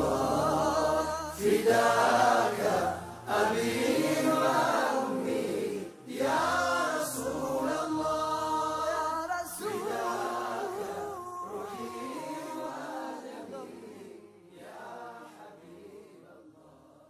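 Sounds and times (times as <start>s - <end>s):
men singing in unison: 0.0s - 17.0s.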